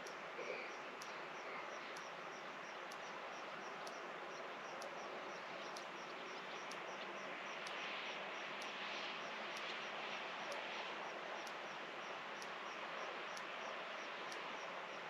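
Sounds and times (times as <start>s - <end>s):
insects chirping: 0.0s - 15.0s
steady hiss: 0.0s - 15.0s.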